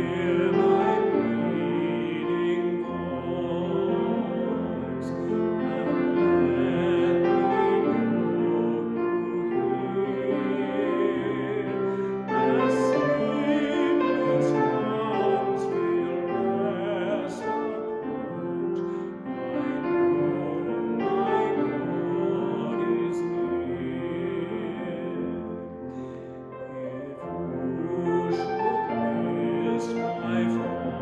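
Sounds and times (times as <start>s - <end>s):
person singing with vibrato: 0.0s - 31.0s
piano accompaniment: 0.0s - 31.0s.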